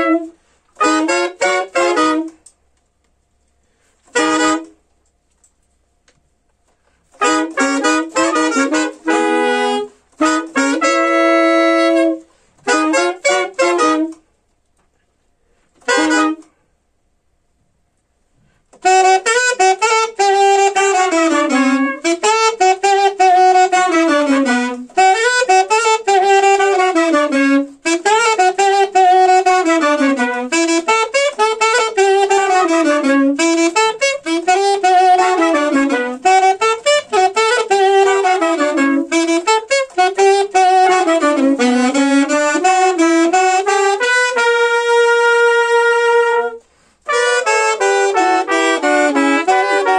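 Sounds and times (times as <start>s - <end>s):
saxophones and trumpet playing: 0.0s - 2.6s, 4.0s - 4.8s, 7.0s - 14.2s, 15.8s - 16.5s, 18.7s - 49.9s.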